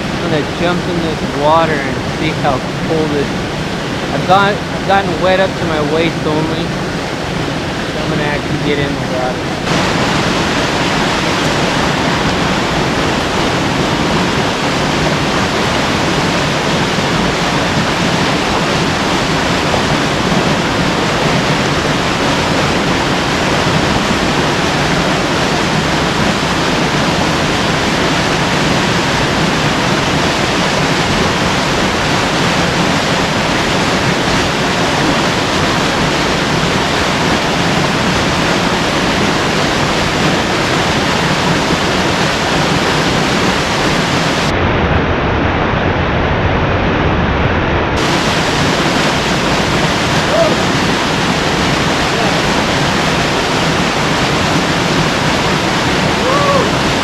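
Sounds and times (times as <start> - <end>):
creek water rushing over rocks: 0.0 - 44.5, 48.0 - 57.0.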